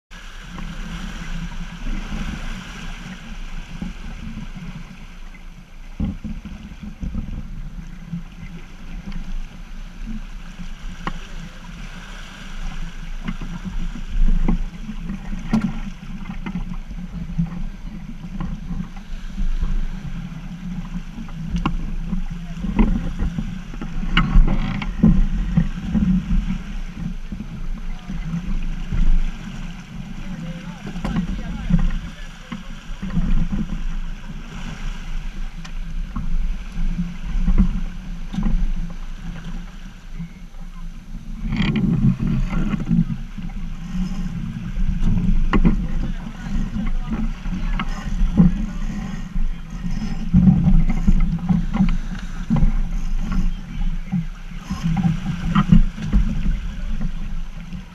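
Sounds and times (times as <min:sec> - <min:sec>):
water rushing along hull: 0:00.1 - 0:57.9
wind buffeting microphone: 0:00.4 - 0:57.9.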